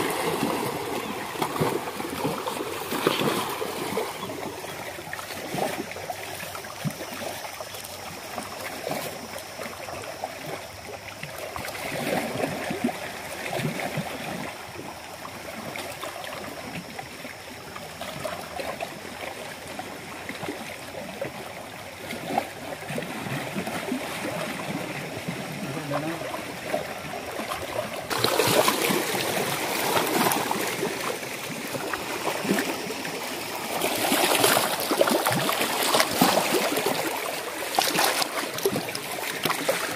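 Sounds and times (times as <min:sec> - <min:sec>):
small waves lapping on rocks: 0:00.0 - 0:39.9.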